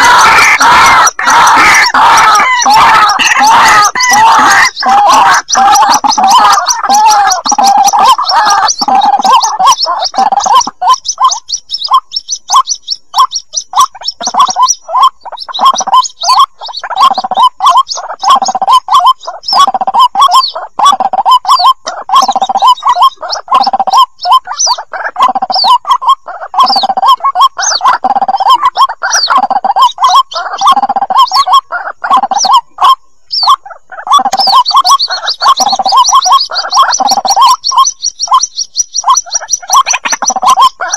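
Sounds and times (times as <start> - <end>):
gurgling bird calls: 0.0 - 40.9
rapid high chick chirps: 0.0 - 40.9.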